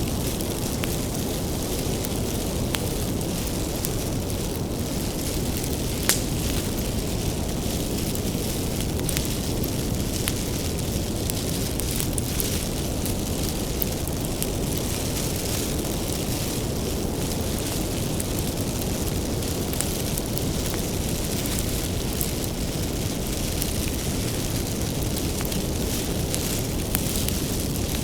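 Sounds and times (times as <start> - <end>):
bonfire flame rumbling: 0.0 - 28.0
wood crackling and popping: 0.0 - 28.0.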